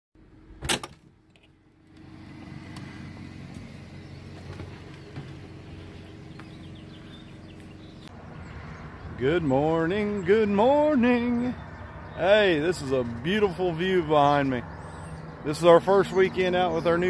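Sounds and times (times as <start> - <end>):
low engine hum: 0.2 - 17.0.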